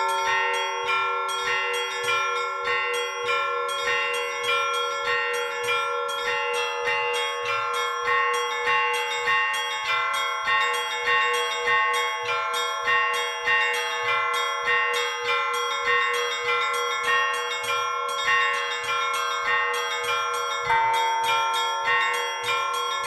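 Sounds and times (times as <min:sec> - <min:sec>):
deep bell tone: 0:00.0 - 0:16.6, 0:17.3 - 0:23.0
small bells struck rapidly: 0:00.0 - 0:23.0.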